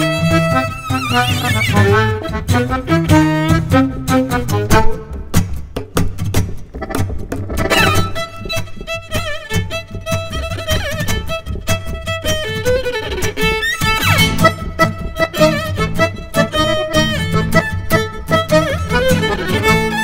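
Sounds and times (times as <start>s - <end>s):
fiddle melody: 0.0s - 5.3s, 6.8s - 20.0s
accordion chords: 0.0s - 5.9s, 6.5s - 20.0s
acoustic guitar strumming: 0.0s - 20.0s.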